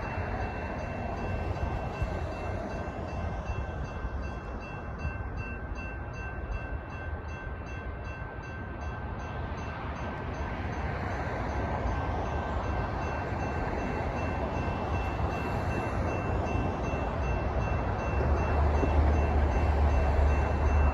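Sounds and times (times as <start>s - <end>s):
railroad crossing bell ringing: 0.0s - 20.9s
train rumble: 0.0s - 20.9s.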